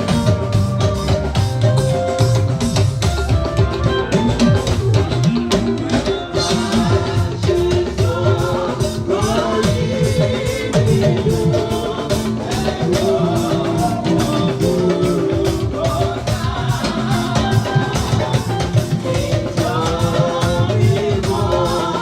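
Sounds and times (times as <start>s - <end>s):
instrumental accompaniment: 0.0s - 22.0s
steady drum beat: 0.0s - 22.0s
people singing a hymn: 4.0s - 22.0s.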